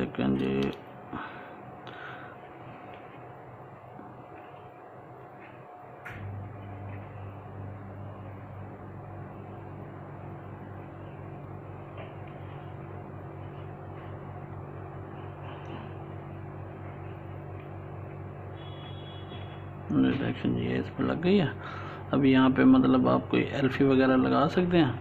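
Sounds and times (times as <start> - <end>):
electrical device humming: 0.0 - 25.0.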